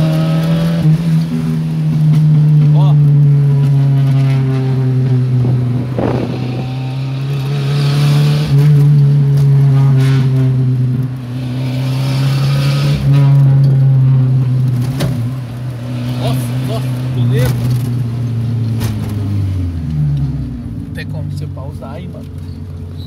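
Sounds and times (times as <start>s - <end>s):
car engine with open exhaust: 0.0s - 23.0s.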